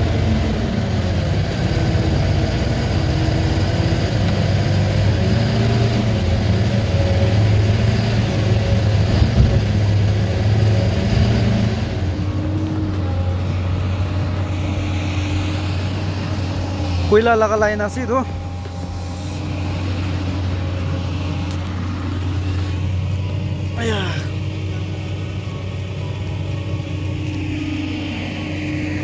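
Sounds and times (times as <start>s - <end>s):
heavy vehicle engine running: 0.0s - 29.0s.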